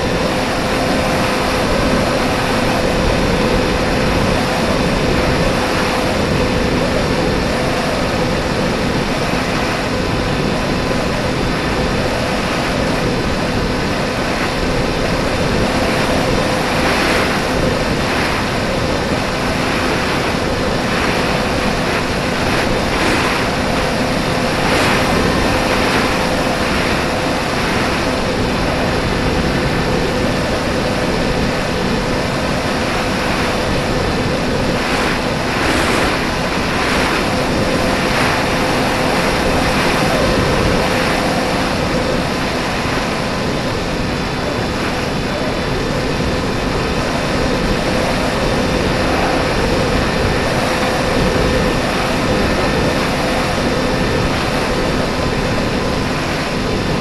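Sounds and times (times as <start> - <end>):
wind rushing: 0.0 - 57.0.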